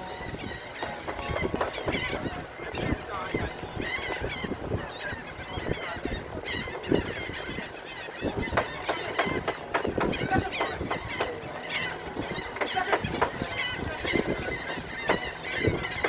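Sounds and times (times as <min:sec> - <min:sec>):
flock of birds squawking: 0:00.0 - 0:16.0.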